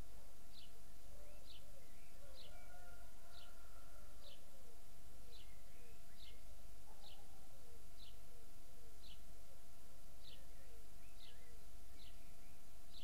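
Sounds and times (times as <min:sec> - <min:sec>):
fainter lower bird calls: 0:00.0 - 0:08.3, 0:10.2 - 0:13.0.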